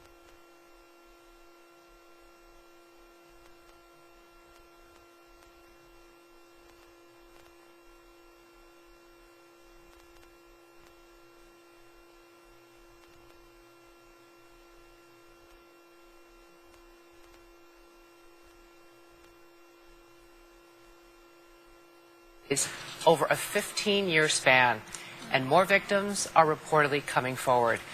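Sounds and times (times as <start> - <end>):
faint electrical hum: 0.0 - 27.9.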